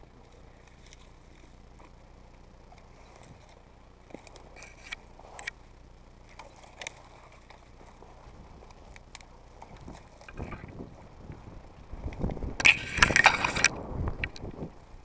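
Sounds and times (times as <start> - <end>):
dry reeds crackling underfoot: 0.0 - 15.0
low steady hum: 0.0 - 15.0.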